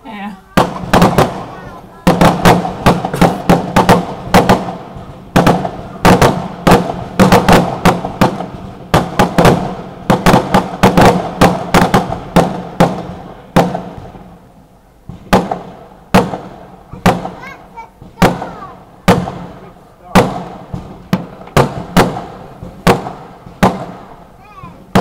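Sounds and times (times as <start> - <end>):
fireworks banging in volleys: 0.0 - 25.0.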